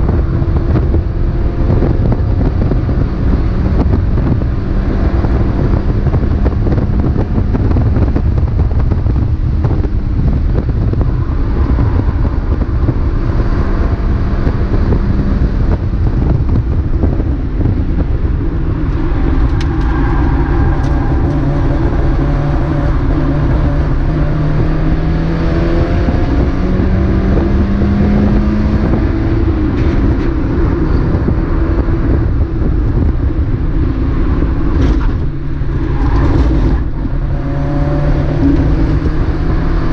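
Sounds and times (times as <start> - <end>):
race car engine: 0.0 - 39.9
road rumble: 0.0 - 39.9
wind noise: 0.0 - 39.9.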